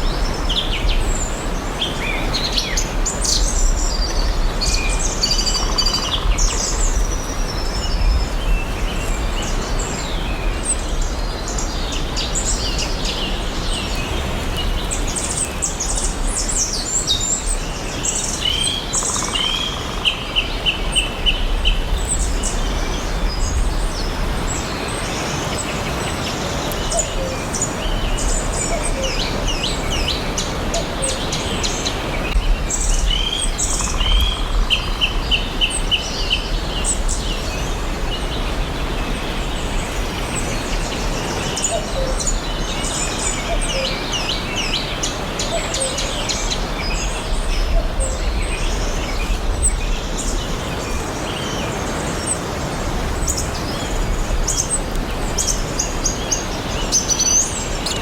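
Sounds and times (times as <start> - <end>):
forest birds chirping and singing: 0.0 - 58.0.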